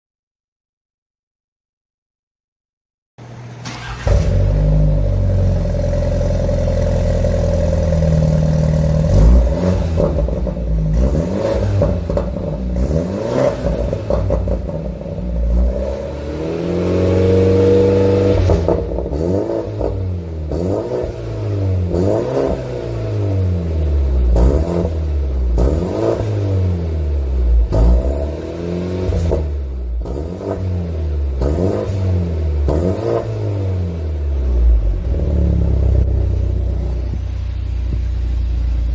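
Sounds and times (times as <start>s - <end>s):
car engine idling and revving: 3.2s - 38.9s.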